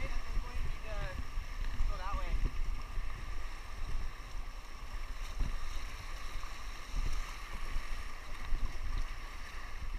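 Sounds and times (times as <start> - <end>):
rushing whitewater: 0.0 - 9.9
wind buffeting microphone: 0.0 - 9.9.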